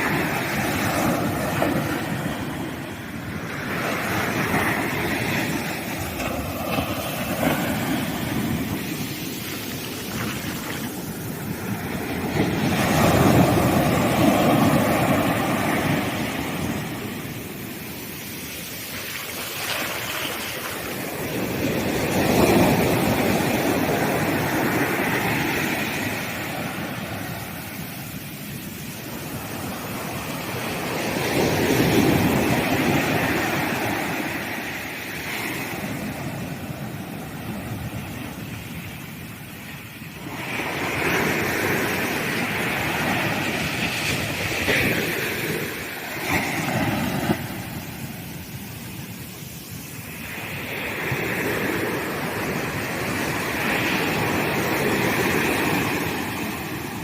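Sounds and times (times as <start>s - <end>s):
sea waves breaking on sand: 0.0s - 57.0s.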